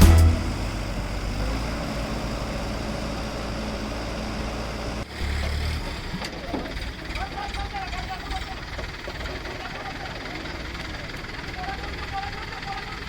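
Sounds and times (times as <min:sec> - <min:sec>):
heavy engine running: 0:00.0 - 0:13.0
open-air noise: 0:00.0 - 0:13.0.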